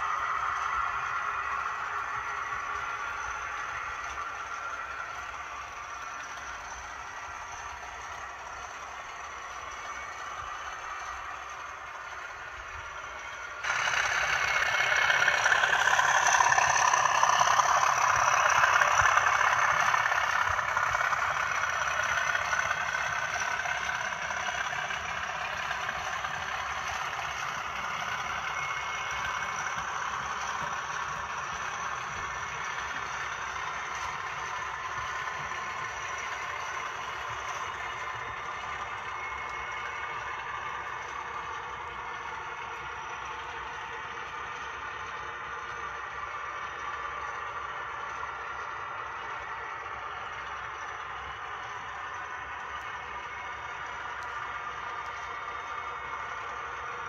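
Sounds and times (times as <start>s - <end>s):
model train rattling on rails: 0.0s - 57.0s.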